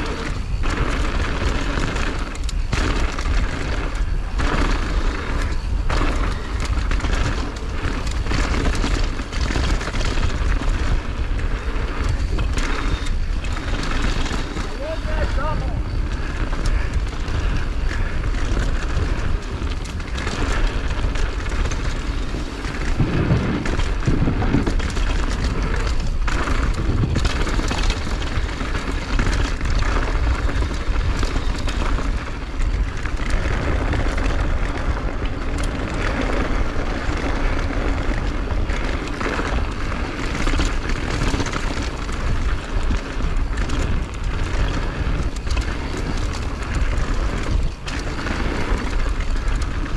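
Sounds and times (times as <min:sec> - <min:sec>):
skis sliding on snow: 0:00.0 - 0:49.9
wind buffeting microphone: 0:00.0 - 0:49.9.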